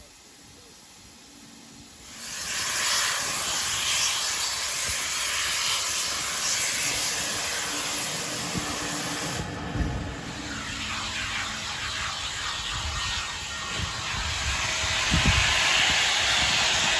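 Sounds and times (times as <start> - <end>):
steam locomotive venting steam: 0.0 - 16.9.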